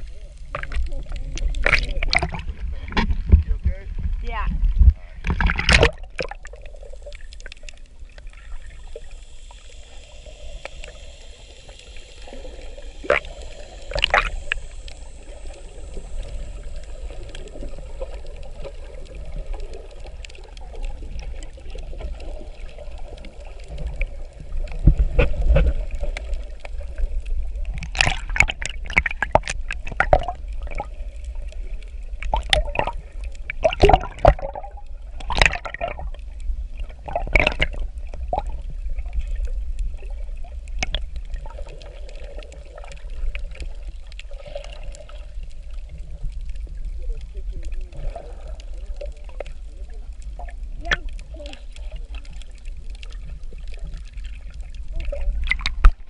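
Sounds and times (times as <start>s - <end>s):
underwater clicks and crackles: 0.0s - 56.0s
underwater low rumble: 0.0s - 56.0s.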